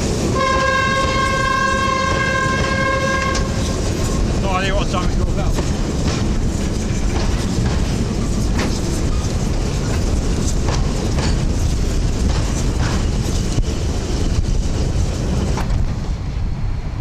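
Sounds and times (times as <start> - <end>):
wheels clicking over rail joints: 0.0 - 16.1
train coaches rumbling past: 0.0 - 17.0.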